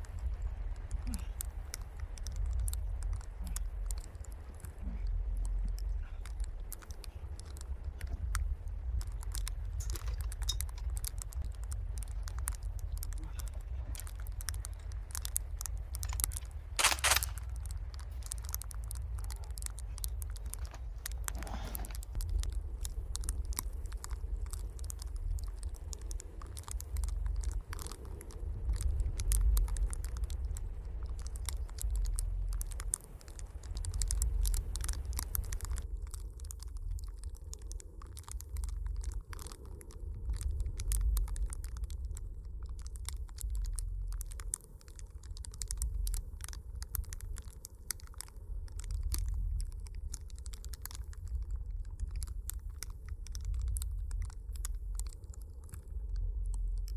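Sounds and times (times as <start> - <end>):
steady low rumble: 0.0 - 56.9
wooden pallet burning: 0.0 - 56.9.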